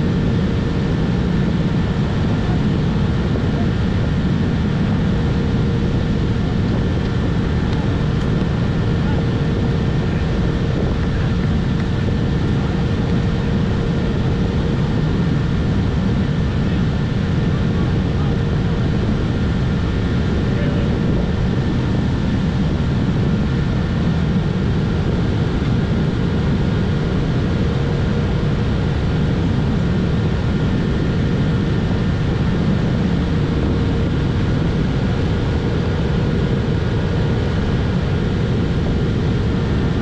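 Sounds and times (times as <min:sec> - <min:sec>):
steady low rumbling: 0:00.0 - 0:40.0.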